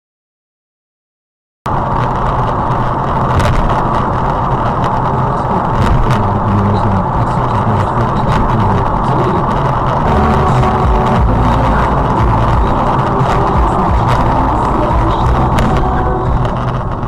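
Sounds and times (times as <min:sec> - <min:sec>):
car engine and road noise: 0:01.7 - 0:17.0.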